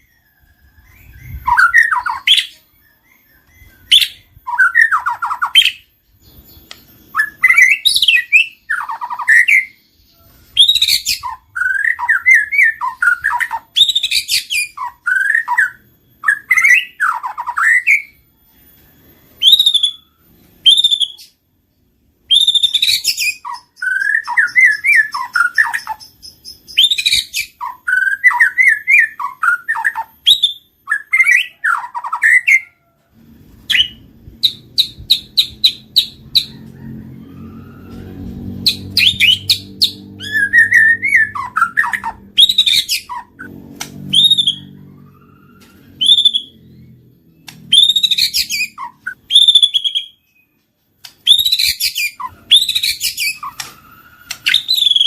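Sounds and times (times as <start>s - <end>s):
bird singing trills and whistles: 0.0s - 21.4s, 22.2s - 32.8s, 33.6s - 36.5s, 38.6s - 55.0s.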